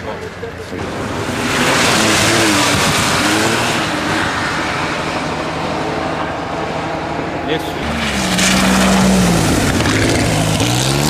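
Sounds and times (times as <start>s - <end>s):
rally car engine revving past: 0.7s - 6.5s, 7.7s - 11.0s.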